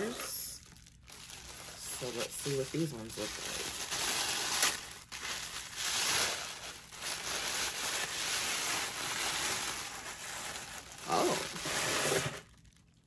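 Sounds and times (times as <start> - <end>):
packaging crinkling: 0.6 - 13.0.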